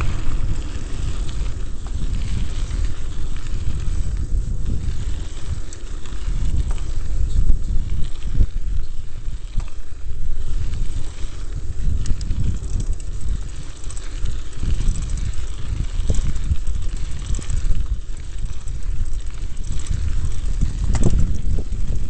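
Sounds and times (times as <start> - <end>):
bike rattle and tyre noise: 0.0 - 22.0
wind buffeting microphone: 0.0 - 22.0.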